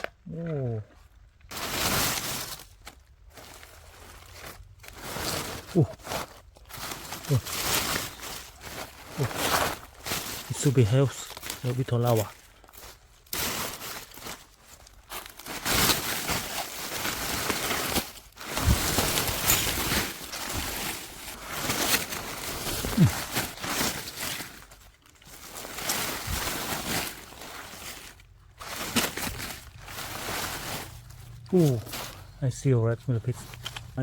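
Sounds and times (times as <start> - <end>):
dry leaves rustling and crunching: 0.0 - 34.0.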